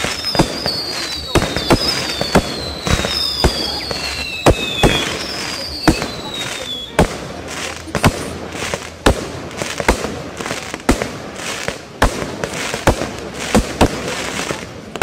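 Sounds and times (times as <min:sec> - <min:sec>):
fireworks hiss: 0:00.0 - 0:15.0
fireworks shells bursting: 0:00.0 - 0:15.0.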